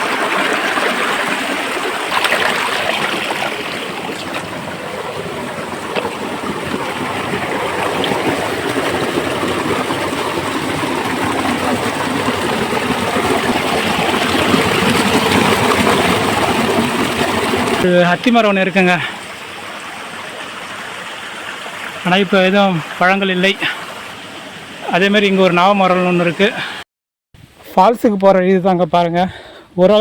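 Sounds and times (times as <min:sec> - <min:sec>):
stream water over rocks: 0:00.0 - 0:26.8.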